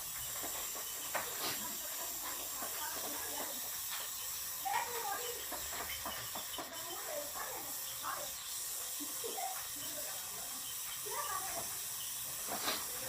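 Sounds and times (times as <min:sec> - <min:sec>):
gas hissing: 0:00.0 - 0:13.0.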